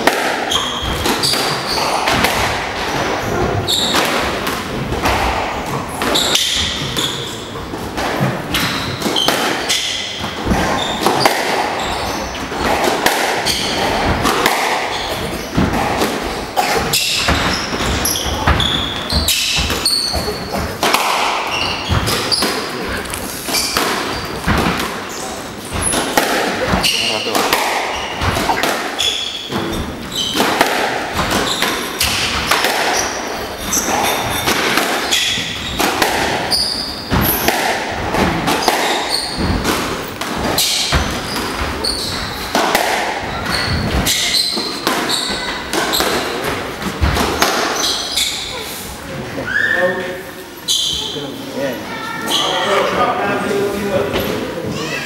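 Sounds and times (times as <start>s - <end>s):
squash ball smacking: 0.0s - 48.5s
shoes squeaking on wooden floor: 0.5s - 5.0s, 5.7s - 53.0s.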